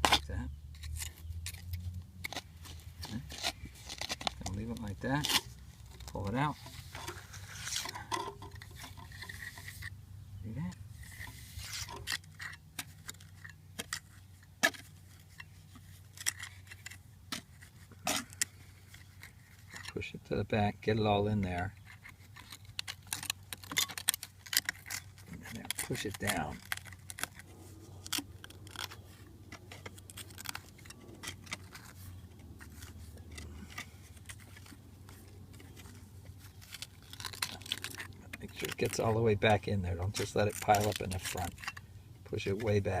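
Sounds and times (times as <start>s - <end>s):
knife scraping against brick: 0.0s - 10.0s, 10.9s - 20.0s, 21.6s - 43.0s
low steady hum: 0.0s - 43.0s.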